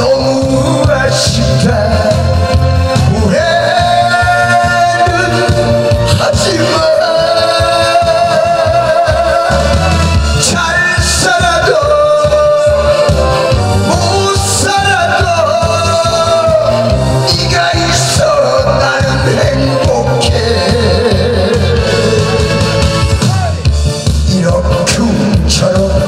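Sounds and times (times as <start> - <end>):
backing track with steady beat: 0.0 - 26.0
man singing into a microphone: 0.0 - 26.0.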